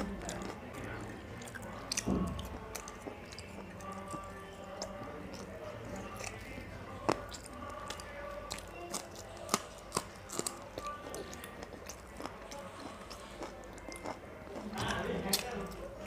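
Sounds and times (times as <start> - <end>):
faint background music: 0.0 - 16.0
wet chewing and lip-smacking: 0.0 - 16.0.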